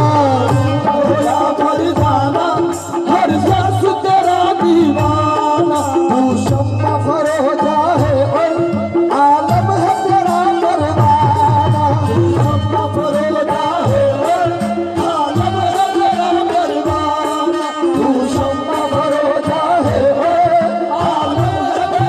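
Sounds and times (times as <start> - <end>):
harmonium: 0.0 - 22.0.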